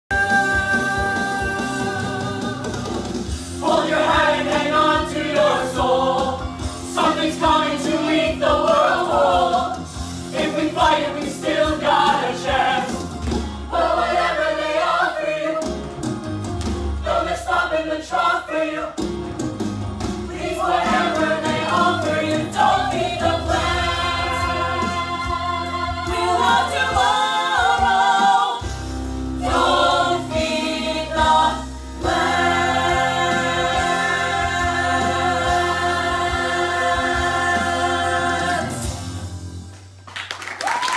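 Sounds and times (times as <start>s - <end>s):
ensemble singing in chorus: 0.1s - 15.8s, 17.0s - 19.0s, 20.3s - 39.4s
band accompaniment: 0.1s - 40.0s.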